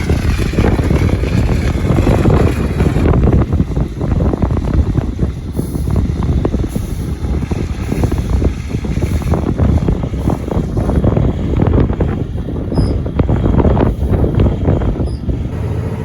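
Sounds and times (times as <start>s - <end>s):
low engine rumble: 0.0s - 16.0s
rattling and clatter: 0.0s - 16.0s.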